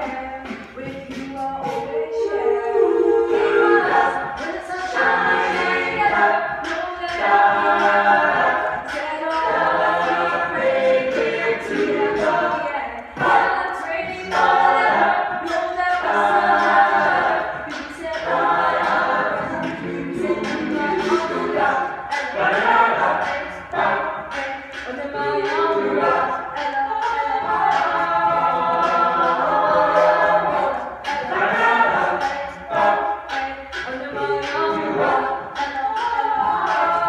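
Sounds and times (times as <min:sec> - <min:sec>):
woman singing lead: 0:00.0 - 0:09.6, 0:12.0 - 0:28.4, 0:29.4 - 0:37.0
backing vocal harmonies: 0:00.0 - 0:37.0.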